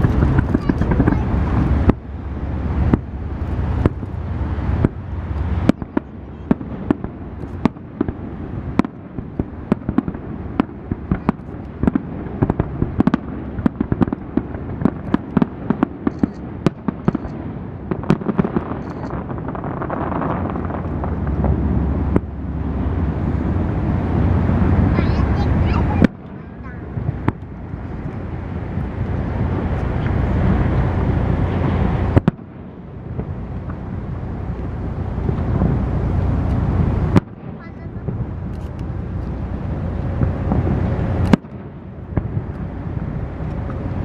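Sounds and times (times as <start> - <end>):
fireworks bangs and crackles: 0.0 - 44.0
low rumble: 0.0 - 44.0.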